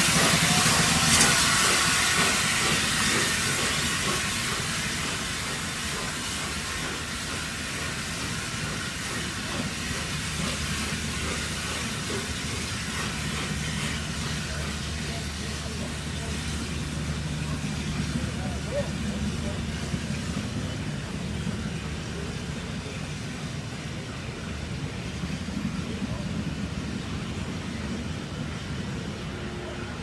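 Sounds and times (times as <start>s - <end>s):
steam hissing: 0.0s - 30.0s
train rumbling on rails: 0.0s - 30.0s.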